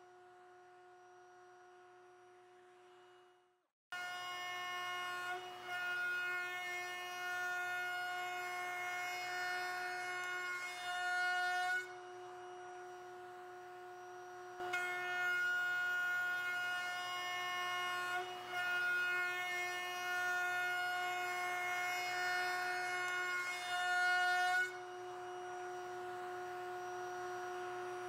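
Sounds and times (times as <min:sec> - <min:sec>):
router whining: 0:04.0 - 0:28.0.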